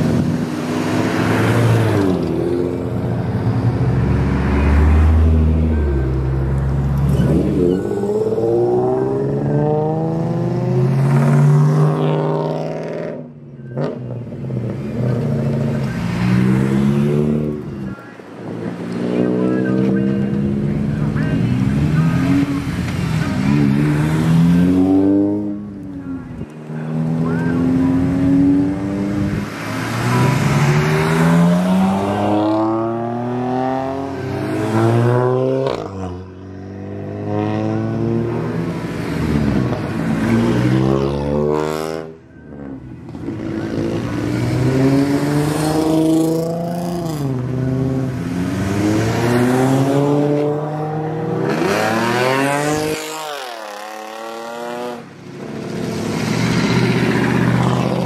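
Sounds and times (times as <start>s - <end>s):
car engines revving past: 0.0s - 58.0s.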